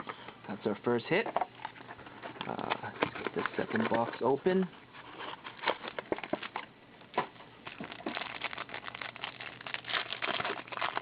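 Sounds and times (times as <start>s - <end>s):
wrapper and cardboard crinkling: 1.6s - 11.0s.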